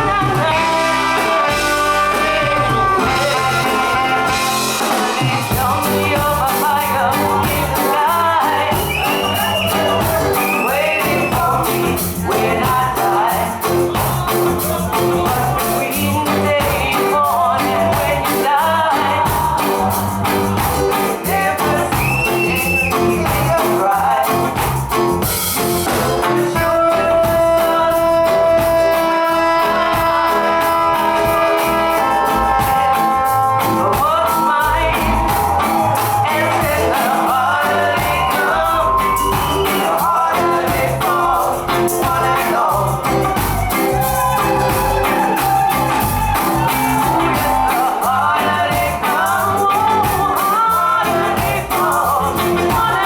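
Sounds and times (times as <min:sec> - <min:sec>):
person singing: 0:00.0 - 0:53.0
reggae band playing: 0:00.0 - 0:53.0.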